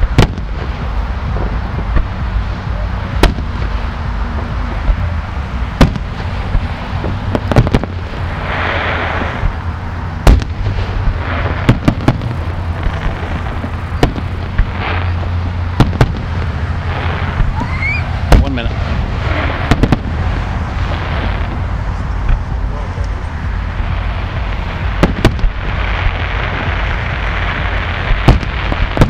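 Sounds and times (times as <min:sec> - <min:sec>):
fireworks bangs: 0:00.0 - 0:29.0
fireworks hissing crackle: 0:00.0 - 0:29.0
low rumble: 0:00.0 - 0:29.0.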